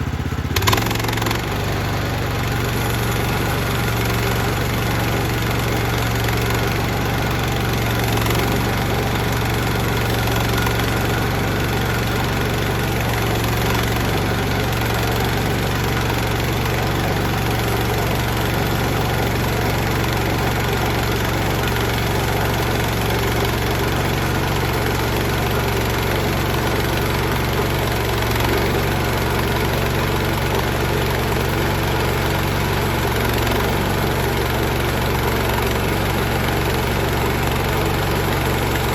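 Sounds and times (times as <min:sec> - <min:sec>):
saw cutting through log: 0:00.0 - 0:38.9
sawmill gas engine running: 0:00.0 - 0:38.9.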